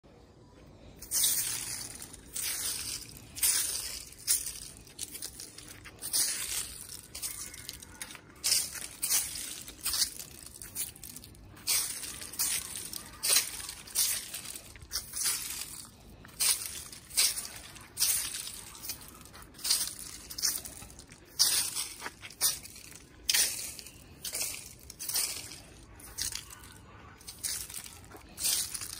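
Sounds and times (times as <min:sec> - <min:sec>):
footsteps on wet concrete and leaves: 0:00.5 - 0:28.9.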